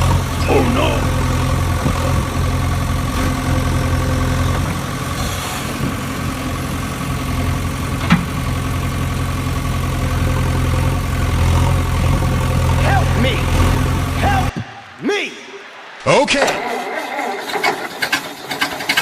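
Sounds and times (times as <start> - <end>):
tractor engine idling: 0.0 - 14.9, 15.7 - 19.0.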